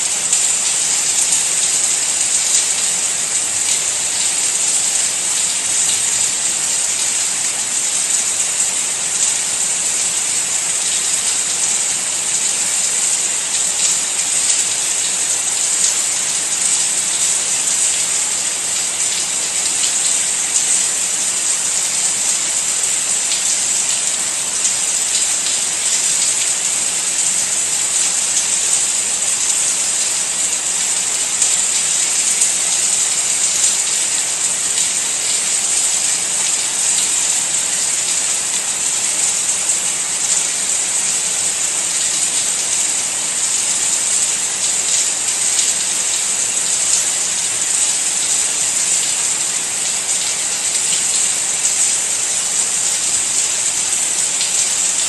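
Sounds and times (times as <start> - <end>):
rain falling steadily: 0.0 - 55.0.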